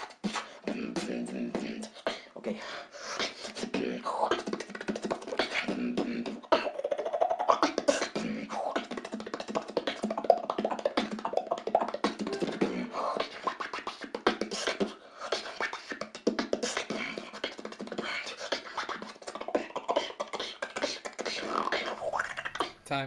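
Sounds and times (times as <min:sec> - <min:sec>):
person beatboxing: 0:00.0 - 0:22.8.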